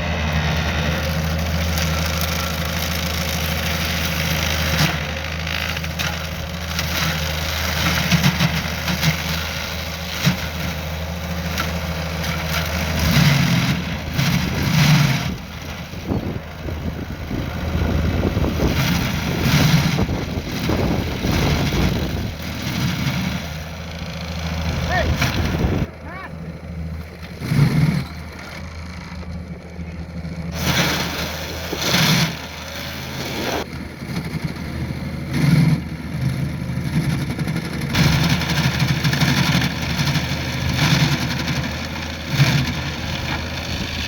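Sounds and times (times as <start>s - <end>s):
mulcher attachment surging: 0.0s - 44.0s
skid steer engine running: 0.0s - 44.0s.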